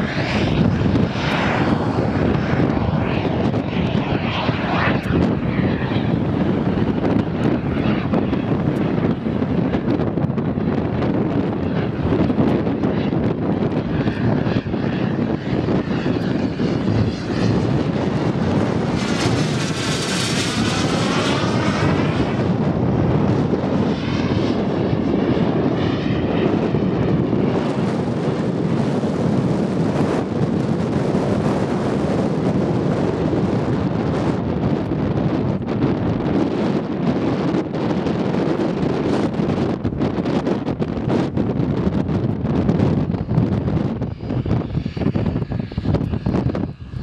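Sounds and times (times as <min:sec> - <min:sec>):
model jet engine flying overhead: 0:00.0 - 0:47.0.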